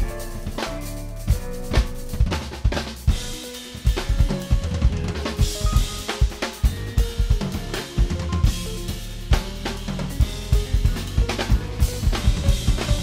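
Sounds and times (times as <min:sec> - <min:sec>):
band holding notes: 0:00.0 - 0:13.0
jazz drum kit groove: 0:00.0 - 0:13.0.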